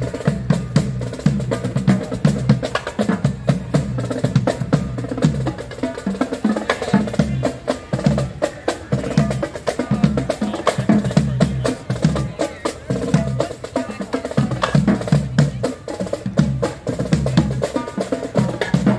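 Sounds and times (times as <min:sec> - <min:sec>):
marching drum cadence: 0:00.0 - 0:18.9.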